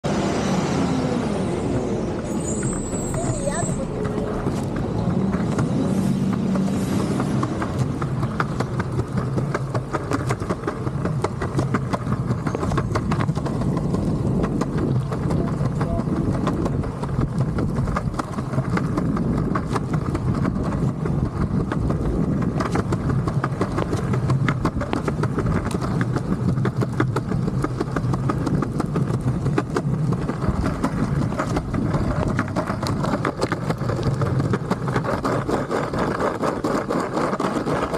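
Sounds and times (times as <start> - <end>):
longboard wheels rolling on concrete: 0.0 - 37.9
wheels clicking over pavement seams: 0.1 - 37.9.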